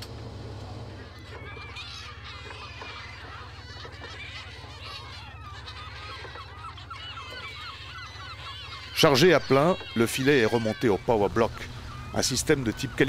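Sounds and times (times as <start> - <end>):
boat engine drone: 0.0 - 13.0
gulls calling: 0.0 - 13.0.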